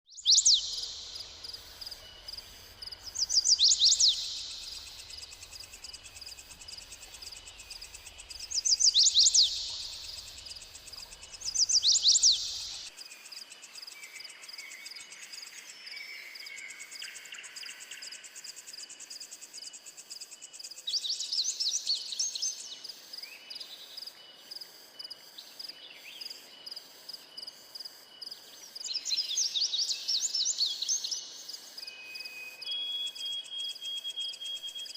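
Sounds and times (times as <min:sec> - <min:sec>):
high insect chorus: 0:00.1 - 0:34.9.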